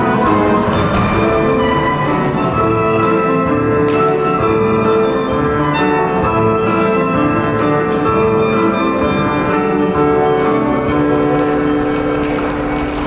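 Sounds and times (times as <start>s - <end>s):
symphony orchestra playing: 0.0s - 13.0s.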